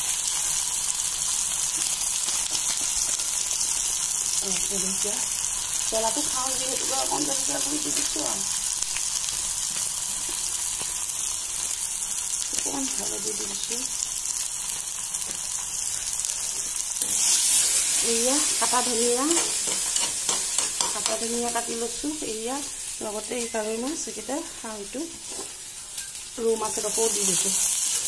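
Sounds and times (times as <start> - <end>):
masala sizzling in hot oil: 0.0 - 28.0.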